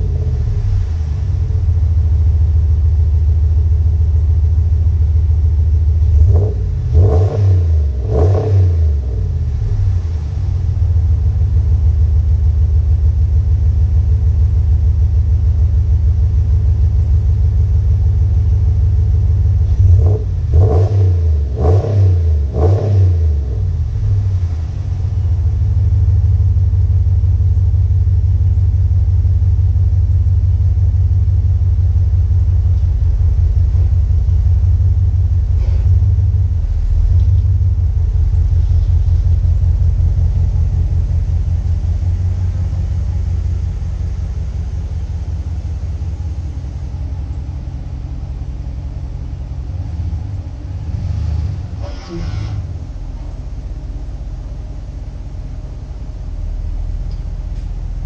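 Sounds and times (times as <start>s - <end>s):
engine throttle blips: 0.0s - 58.0s
pickup exhaust idling: 0.0s - 58.0s.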